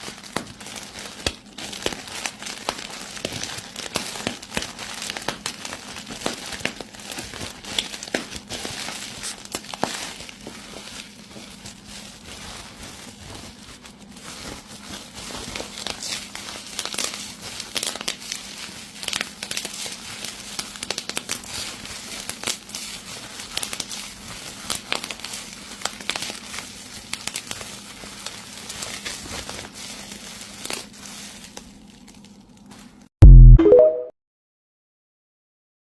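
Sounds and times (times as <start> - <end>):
bubble wrap popping: 0.0 - 32.2
plastic crinkling: 0.0 - 33.1.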